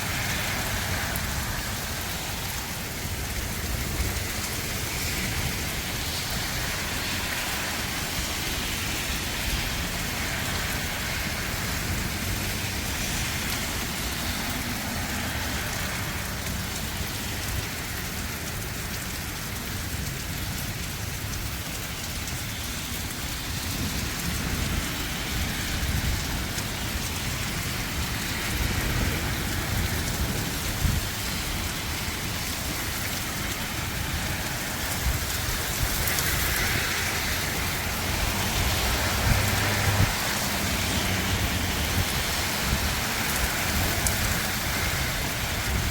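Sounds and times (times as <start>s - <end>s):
wind gusting over microphone: 0.0s - 19.0s, 23.1s - 45.9s
heavy rain falling: 0.0s - 45.9s.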